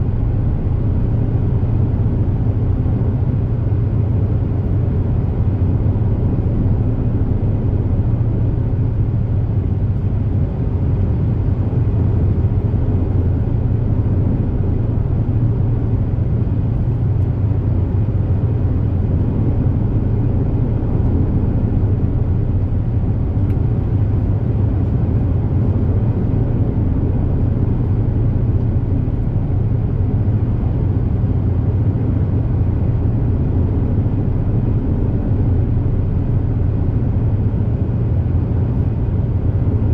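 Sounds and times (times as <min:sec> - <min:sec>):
boat engine drone and hull rumble: 0:00.0 - 0:39.9.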